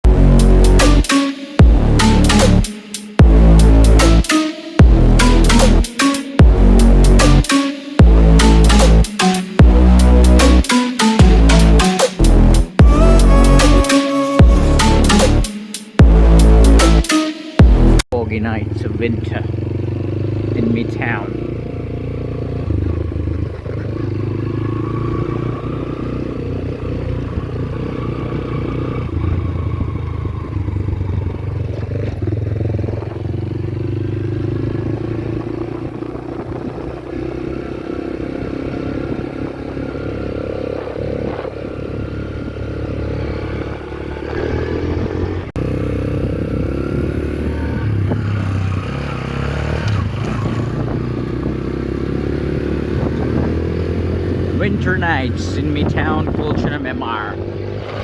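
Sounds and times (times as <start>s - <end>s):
motorcycle engine running: 0.0s - 13.8s, 17.6s - 58.0s.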